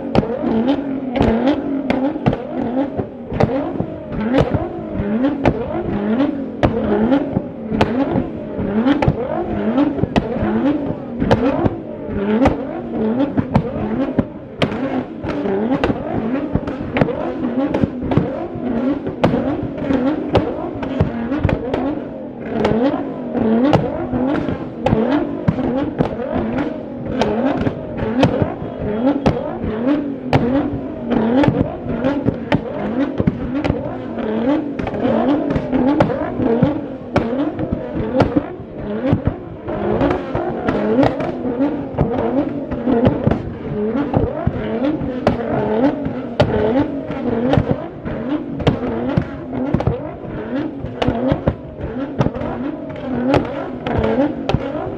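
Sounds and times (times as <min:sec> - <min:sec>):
car engine revving: 0:00.0 - 0:54.9
exhaust pops and bangs: 0:00.0 - 0:54.9.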